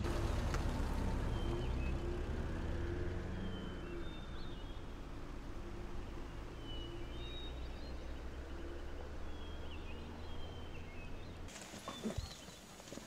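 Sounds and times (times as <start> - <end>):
high bird calls: 1.1 - 13.0.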